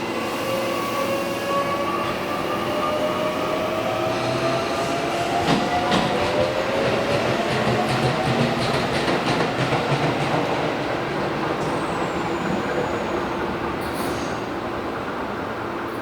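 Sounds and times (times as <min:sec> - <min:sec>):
electric train running rumble: 0:00.7 - 0:16.0.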